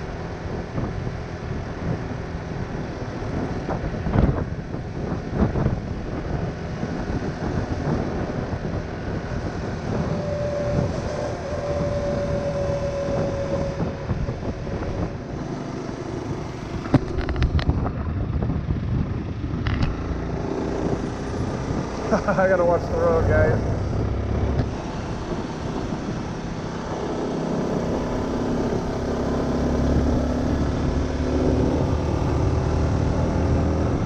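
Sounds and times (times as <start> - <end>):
motorcycle engine running: 0.0 - 34.0
wind on microphone: 0.0 - 34.0.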